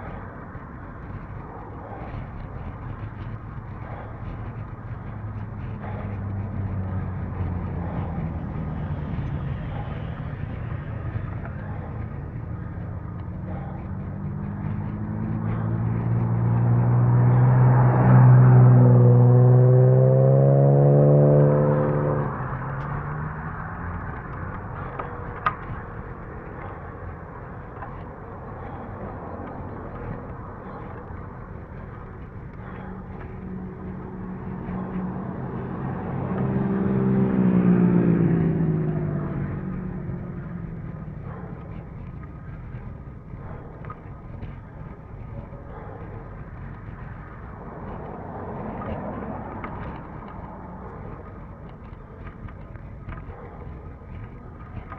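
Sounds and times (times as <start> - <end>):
road noise: 0.0 - 54.9
vehicle engine hum: 0.0 - 54.9.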